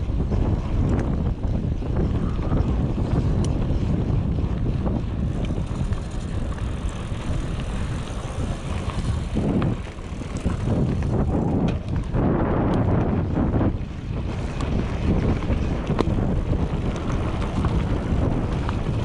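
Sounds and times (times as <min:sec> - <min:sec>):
bike clicks and rattles: 0:00.0 - 0:19.0
wind buffeting microphone: 0:00.0 - 0:19.0
tyres rumbling on dirt: 0:00.2 - 0:19.0.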